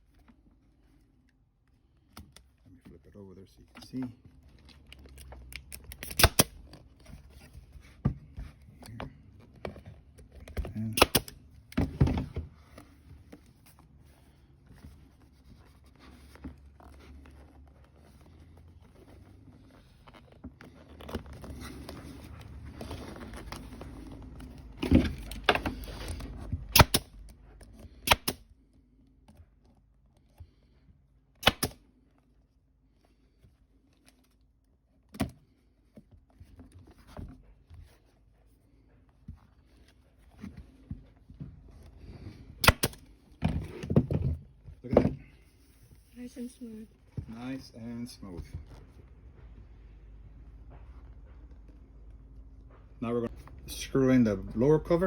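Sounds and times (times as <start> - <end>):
vinyl cover rustling and crinkling: 0.0 - 31.3, 31.9 - 52.6.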